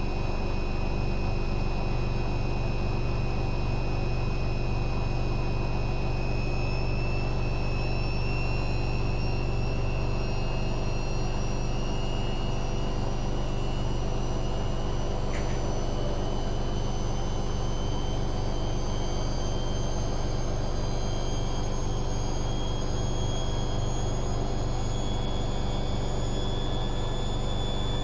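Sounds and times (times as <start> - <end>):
washing machine spinning: 4.2 - 28.0.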